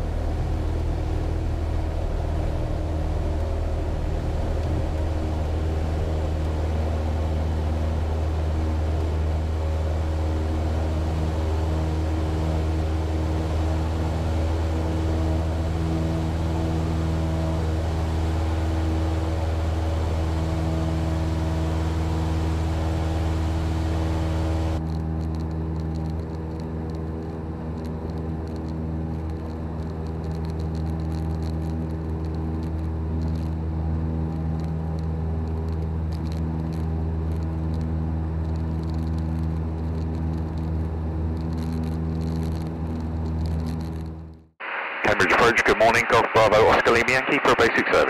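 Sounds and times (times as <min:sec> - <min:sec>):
propeller plane engine drone: 0:00.0 - 0:48.0.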